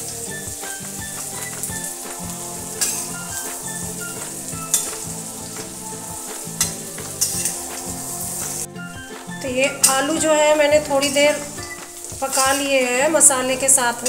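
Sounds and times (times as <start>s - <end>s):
potatoes sizzling in oil: 0.0s - 14.0s
spatula scraping a pan: 0.1s - 14.0s.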